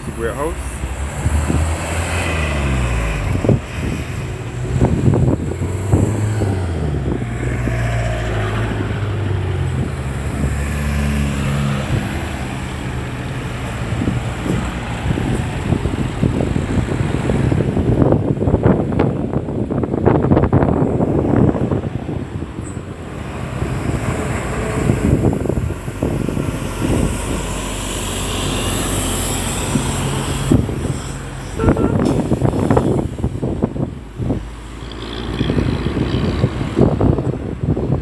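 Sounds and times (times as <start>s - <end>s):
traffic passing: 0.0s - 38.0s.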